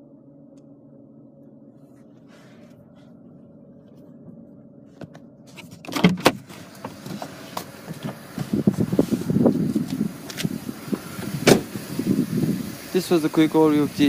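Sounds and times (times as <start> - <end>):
car low hum: 0.0 - 14.0.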